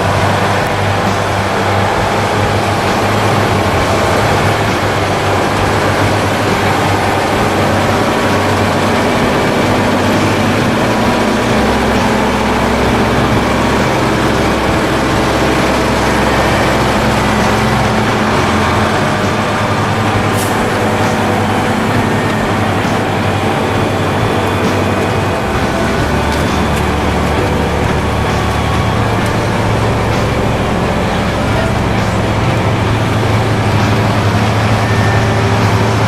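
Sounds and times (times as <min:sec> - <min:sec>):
heavy vehicle engine droning: 0:00.0 - 0:36.0.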